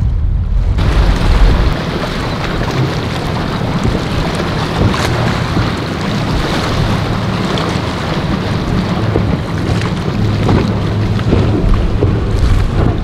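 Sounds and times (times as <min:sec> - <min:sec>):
boat engine drone: 0:00.0 - 0:13.0
wind buffeting microphone: 0:00.0 - 0:13.0
spray and waves hissing: 0:00.2 - 0:13.0.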